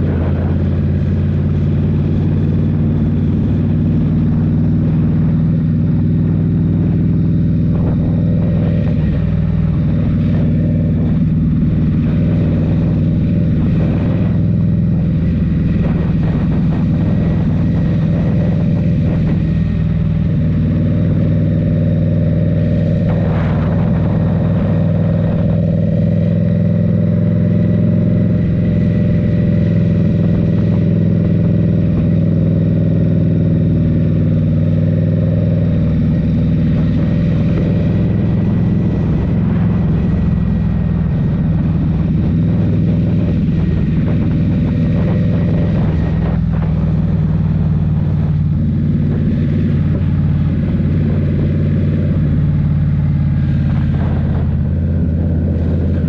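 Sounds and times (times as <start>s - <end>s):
motorcycle exhaust while riding: 0.0s - 56.0s.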